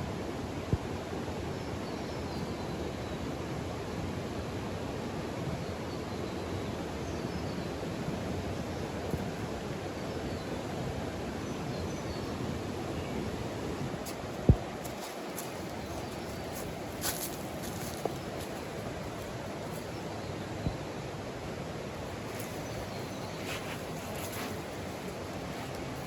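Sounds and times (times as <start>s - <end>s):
outdoor ambient noise: 0.0s - 26.0s.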